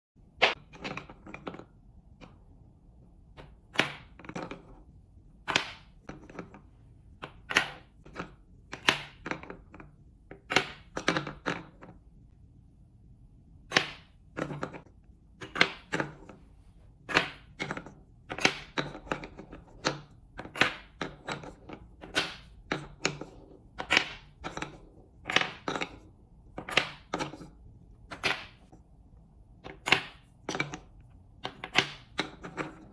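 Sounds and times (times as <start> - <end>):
wooden balls clacking into cups: 0.3 - 12.1, 13.6 - 32.9.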